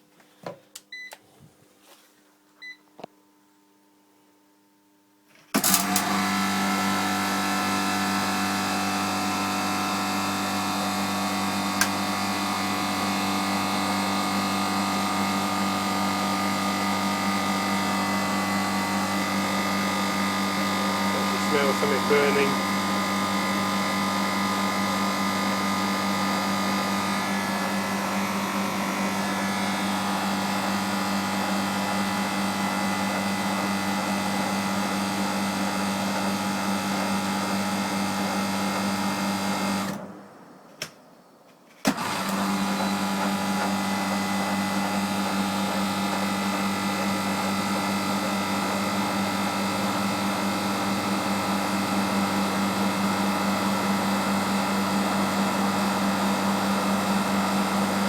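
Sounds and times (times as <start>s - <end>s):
compressor and fans humming: 5.0s - 41.1s, 41.8s - 58.0s.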